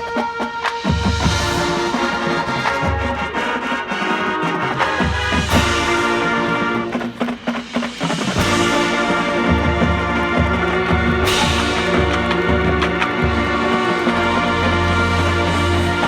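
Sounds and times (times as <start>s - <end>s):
brass chords: 0.0s - 16.0s.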